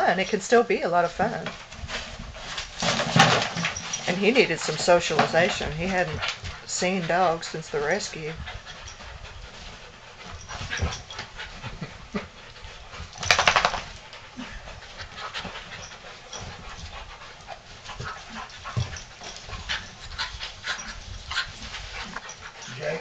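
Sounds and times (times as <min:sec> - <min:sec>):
dogs panting: 0:00.0 - 0:23.0
paws scuffling on carpet: 0:00.1 - 0:23.0.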